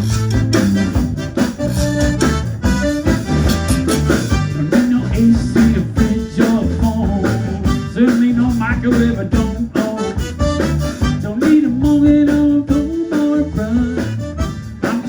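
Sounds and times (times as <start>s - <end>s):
live band with accordion: 0.0s - 15.0s.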